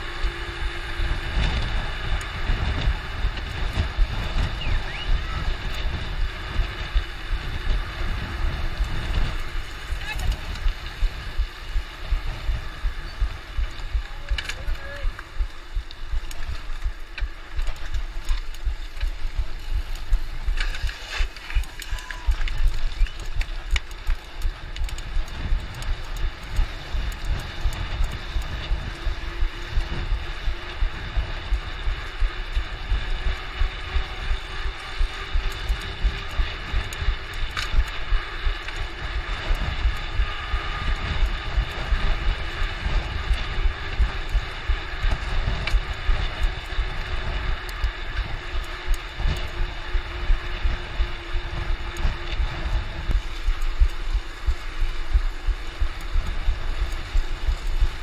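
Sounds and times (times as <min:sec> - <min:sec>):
bike rattling over bumps: 0:00.0 - 0:58.0
bike tyres rumbling on trail: 0:00.0 - 0:58.0.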